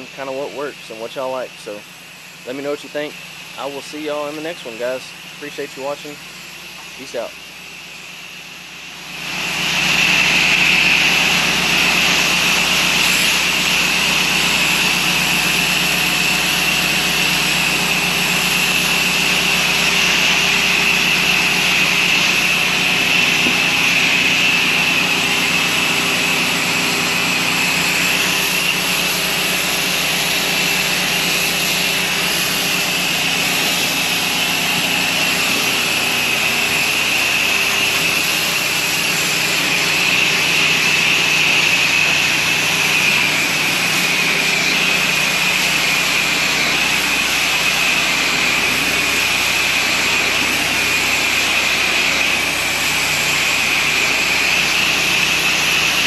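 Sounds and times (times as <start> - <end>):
pump engine droning: 0.0 - 56.0
water spraying hiss: 9.2 - 56.0.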